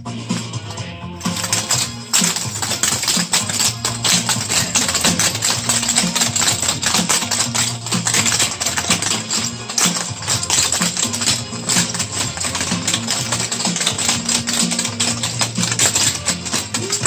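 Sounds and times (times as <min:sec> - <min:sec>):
music with bass line: 0:00.0 - 0:17.0.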